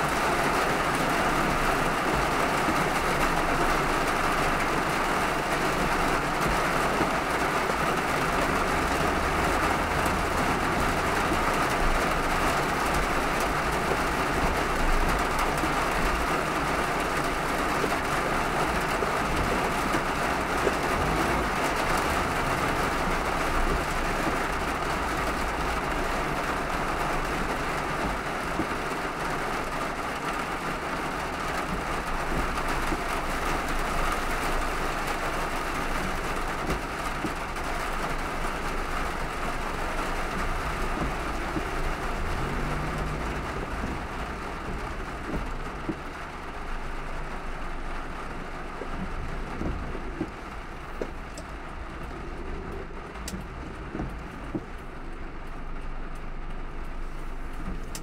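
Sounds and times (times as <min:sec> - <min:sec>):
low road rumble: 0:00.0 - 0:58.0
rain and tyres hissing: 0:00.0 - 0:58.0.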